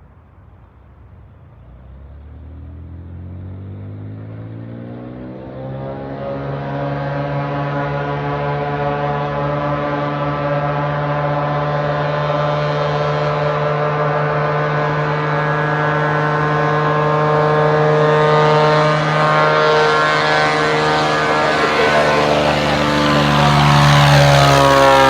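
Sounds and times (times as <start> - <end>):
piston engine and propeller: 0.0 - 25.0.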